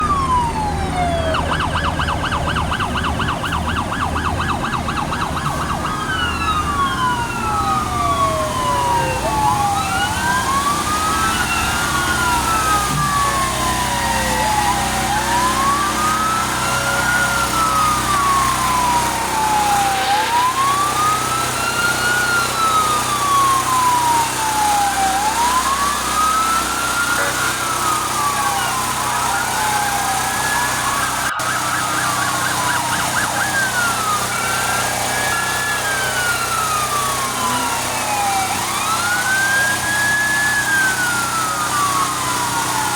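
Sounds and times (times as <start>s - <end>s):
emergency vehicle siren: 0.0s - 42.9s
low engine rumble: 0.0s - 42.9s
second siren: 0.0s - 42.9s.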